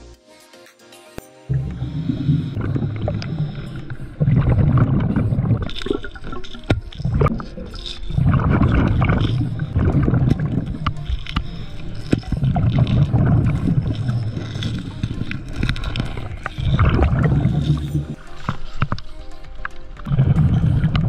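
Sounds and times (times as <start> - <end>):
underwater exhaust bubbles gurgling: 1.5 - 21.0.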